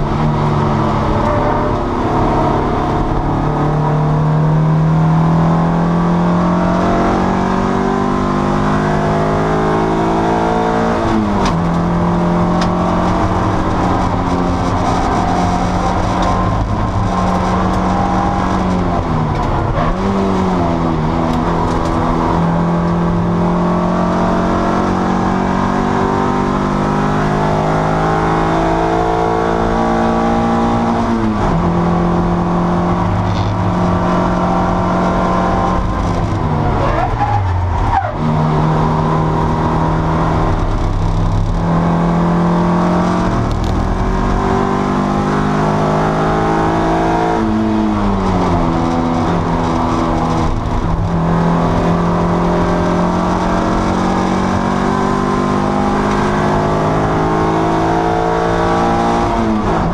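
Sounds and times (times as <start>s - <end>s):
racing car engine revving: 0.0s - 59.9s.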